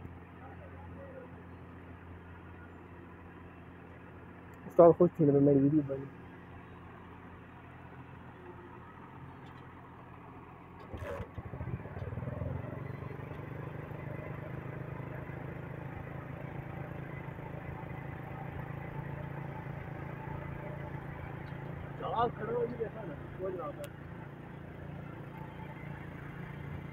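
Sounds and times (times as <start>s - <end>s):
truck engine running: 0.0s - 26.9s.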